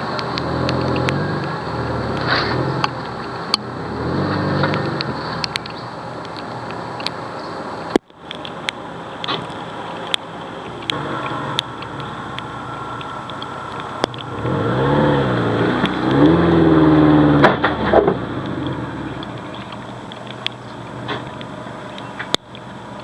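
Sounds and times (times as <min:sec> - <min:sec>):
car engine revving: 0:00.0 - 0:08.0, 0:10.4 - 0:23.0.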